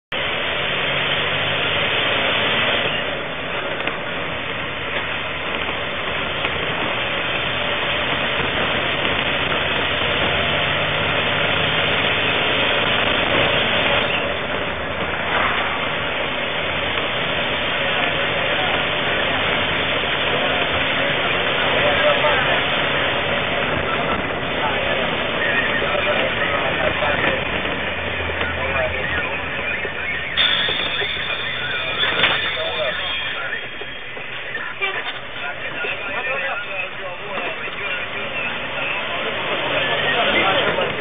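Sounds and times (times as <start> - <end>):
bus engine drone: 0.1 - 41.0.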